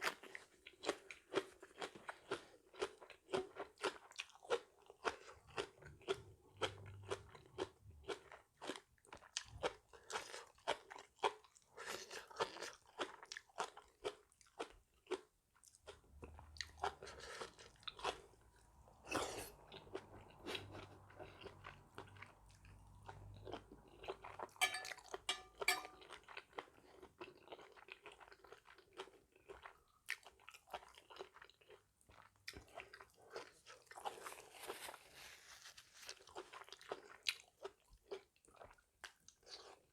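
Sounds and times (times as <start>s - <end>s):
person crunching and chewing: 0.0s - 18.4s, 19.1s - 39.9s.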